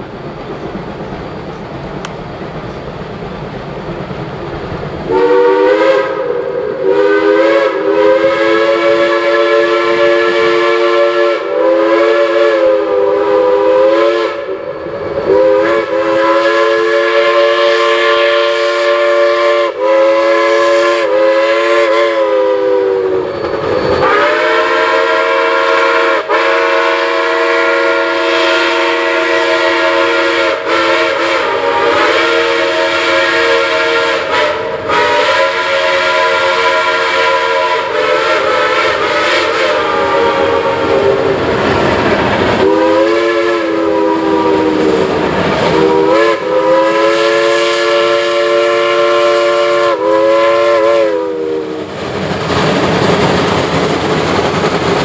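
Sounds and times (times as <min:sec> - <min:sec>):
steam locomotive chime whistle: 0:05.1 - 0:41.5, 0:42.6 - 0:51.9.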